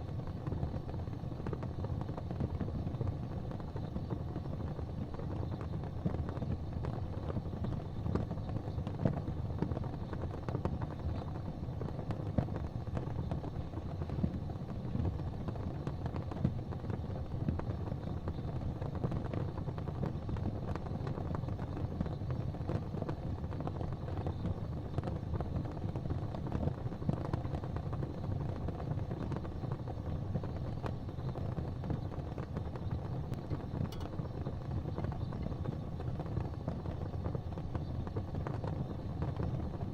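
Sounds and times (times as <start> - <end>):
fire popping: 0.0 - 39.9
fire roaring and crackling: 0.0 - 39.9.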